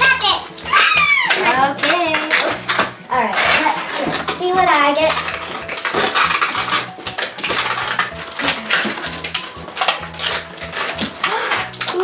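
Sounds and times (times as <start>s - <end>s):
foil packaging crinkling and tearing: 0.0s - 12.0s.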